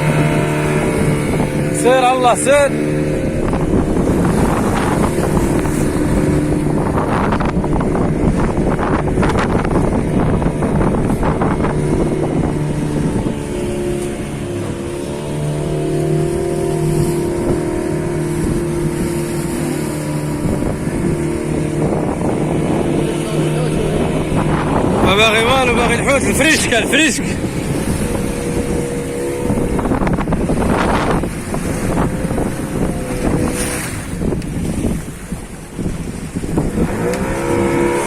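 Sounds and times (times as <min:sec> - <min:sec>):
boat engine droning: 0:00.0 - 0:38.0
wind on microphone: 0:00.0 - 0:38.0.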